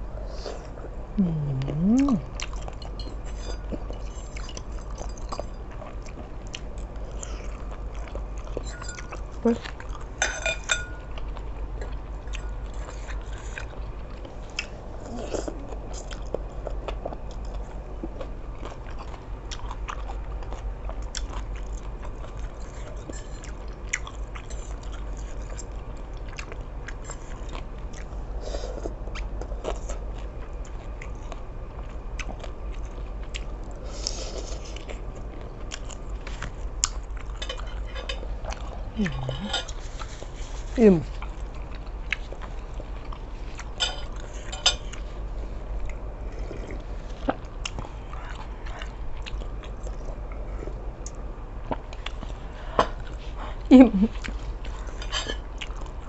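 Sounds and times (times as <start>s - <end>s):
low steady hum: 0.0s - 56.0s
person chewing food: 0.3s - 56.0s.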